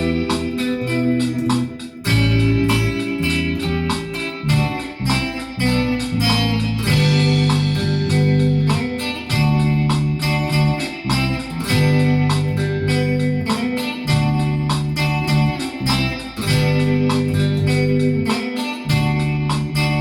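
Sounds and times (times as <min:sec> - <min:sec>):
plucked and strummed guitar: 0:00.0 - 0:20.0
steady bass line: 0:00.0 - 0:20.0.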